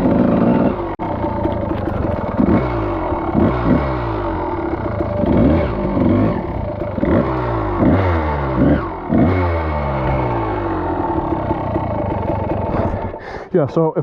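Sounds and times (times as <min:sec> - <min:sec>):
dirt bike engine revving: 0:00.0 - 0:13.2.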